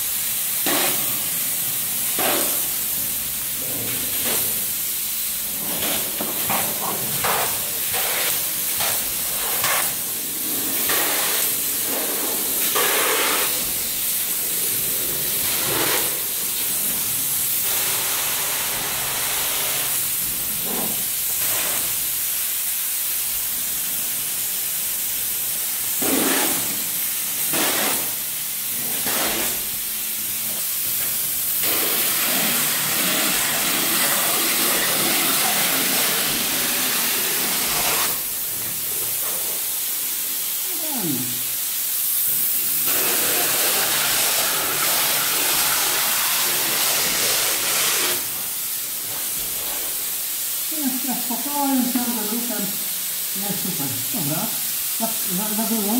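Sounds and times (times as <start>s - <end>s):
spray foam gun hissing: 0.0s - 55.9s.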